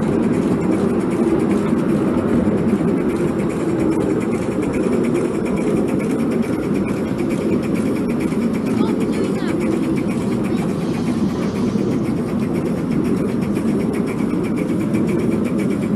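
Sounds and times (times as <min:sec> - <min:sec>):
model steam locomotive running: 0:00.0 - 0:15.9.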